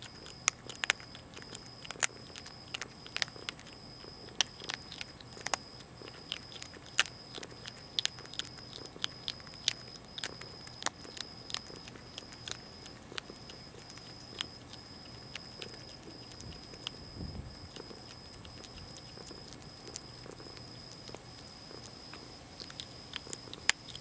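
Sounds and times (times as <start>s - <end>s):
animal crunching dry food: 0.0s - 24.0s.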